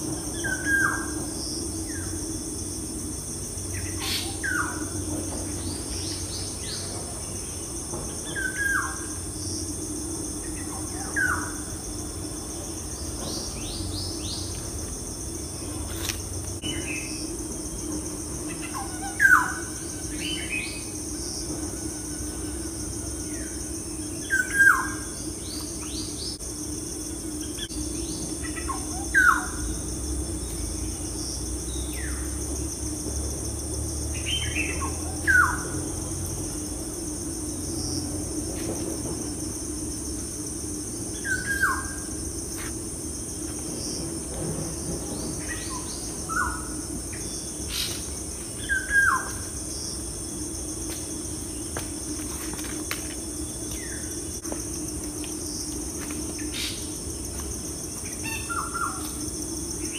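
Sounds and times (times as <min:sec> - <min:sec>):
insect-like chirring: 0:00.0 - 0:59.9.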